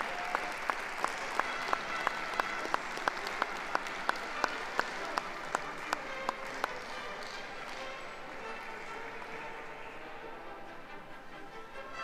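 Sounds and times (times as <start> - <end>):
audience clapping in rhythm: 0.0 - 10.4.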